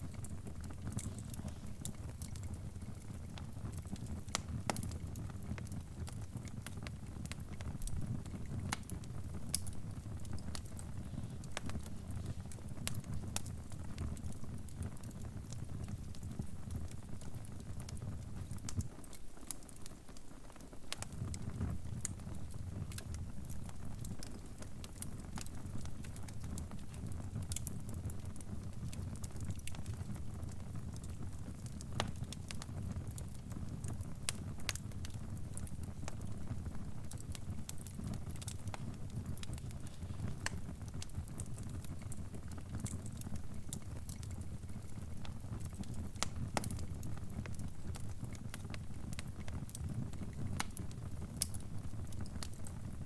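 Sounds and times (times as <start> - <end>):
crackling fire: 0.0 - 53.0.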